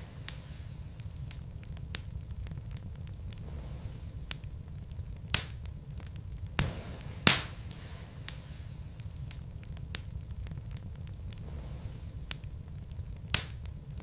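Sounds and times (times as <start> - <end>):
fire rumbling in fireplace: 0.0 - 14.0
logs popping and crackling: 0.0 - 14.0.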